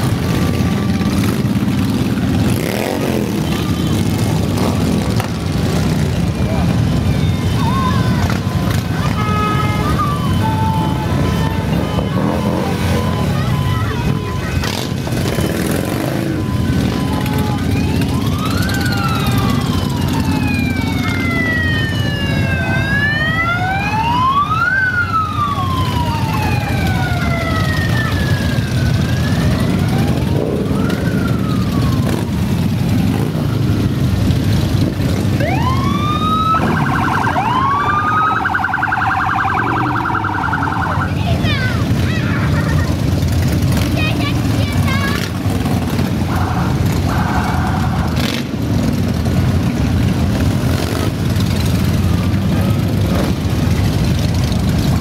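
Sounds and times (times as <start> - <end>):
siren wailing: 0.0 - 42.0, 45.1 - 48.4
motorcycles rumbling past: 0.0 - 55.0.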